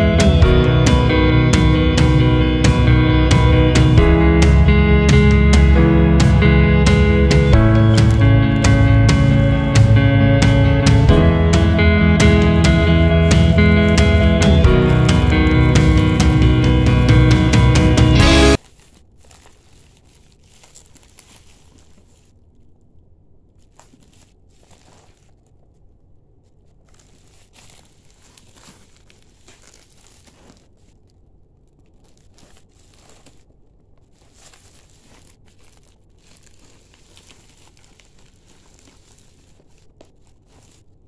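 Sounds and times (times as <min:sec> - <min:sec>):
plastic wrap crinkling: 0:00.0 - 0:41.0.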